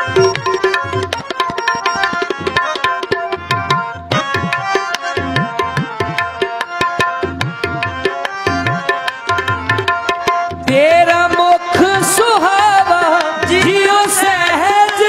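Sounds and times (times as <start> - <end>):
sustained melody instruments: 0.0 - 13.9
tabla playing quick rhythm: 0.0 - 15.0.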